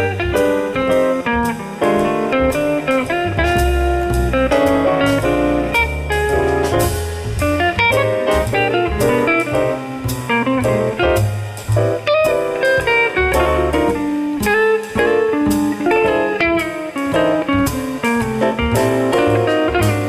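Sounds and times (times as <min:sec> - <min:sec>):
instrumental melody with bass line: 0:00.0 - 0:20.0.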